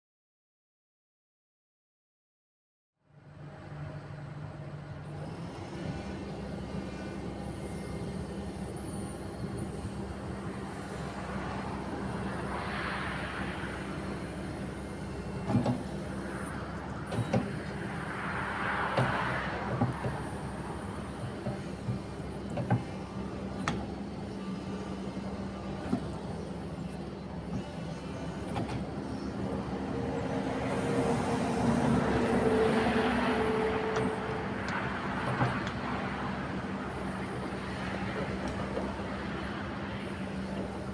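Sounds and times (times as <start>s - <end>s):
excavator engine hum: 3.1s - 40.9s.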